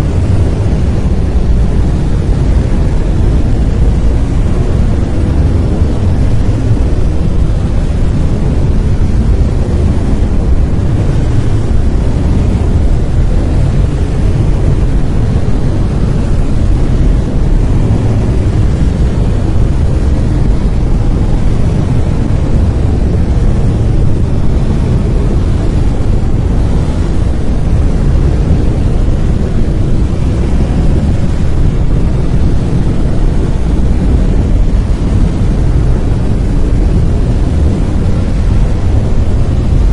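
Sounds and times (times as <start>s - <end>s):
brown noise rumble: 0.0s - 39.9s.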